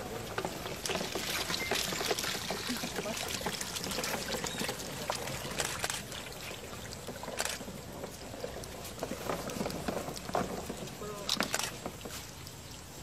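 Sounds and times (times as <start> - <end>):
water splashing onto sand: 0.0 - 13.0.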